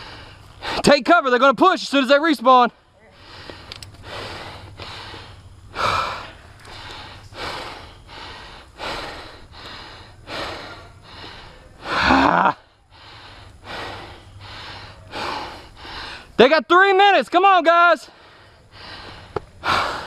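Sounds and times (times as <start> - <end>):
heavy breathing panting: 0.0 - 0.9, 3.0 - 16.4, 18.0 - 20.0.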